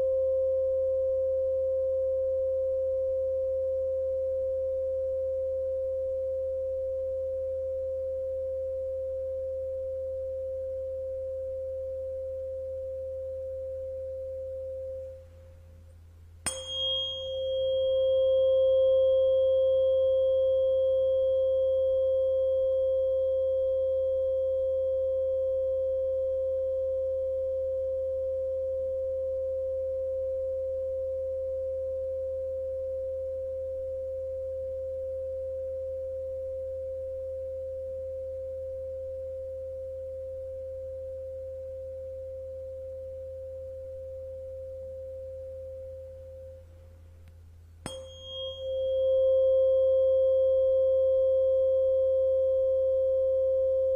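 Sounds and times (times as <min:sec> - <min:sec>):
faint low hum: 0:00.0 - 0:53.9
steady pure tone: 0:00.0 - 0:53.9.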